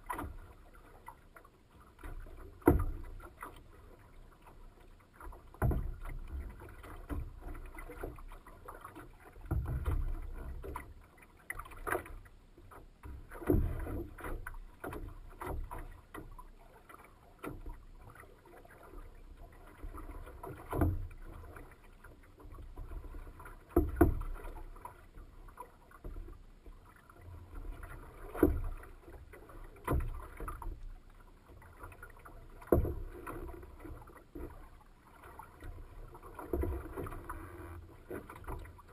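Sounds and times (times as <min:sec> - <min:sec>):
water lapping against boat hull: 0:00.0 - 0:38.9.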